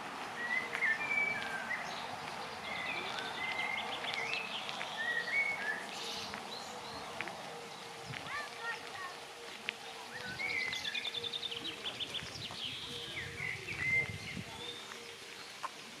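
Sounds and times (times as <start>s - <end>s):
songbirds singing: 0.3s - 16.0s.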